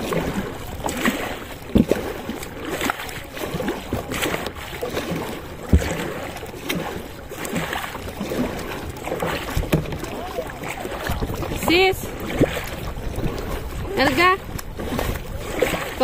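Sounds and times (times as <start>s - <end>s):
paddle strokes splashing water: 0.0s - 16.0s.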